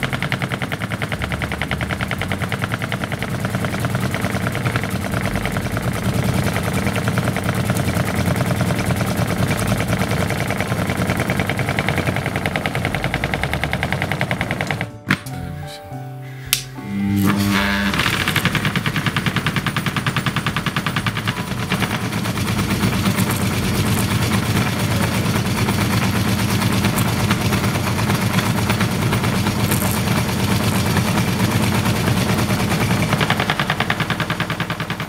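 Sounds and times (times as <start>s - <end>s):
motor hum: 0.0s - 35.0s.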